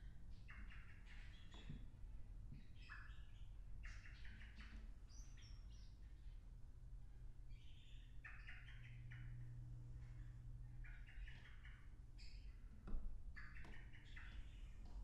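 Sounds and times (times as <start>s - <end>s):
blackbird song: 0.0s - 15.0s
low steady hum: 0.0s - 15.0s.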